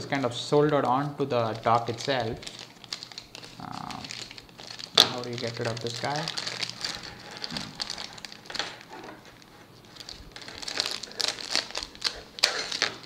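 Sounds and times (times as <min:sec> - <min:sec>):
scissors cutting plastic: 0:00.0 - 0:09.2, 0:09.9 - 0:13.0
plastic bag crinkling: 0:00.0 - 0:13.0.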